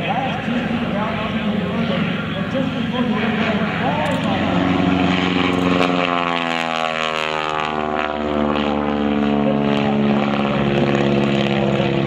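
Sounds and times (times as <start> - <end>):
biplane engine droning: 0.0 - 12.0.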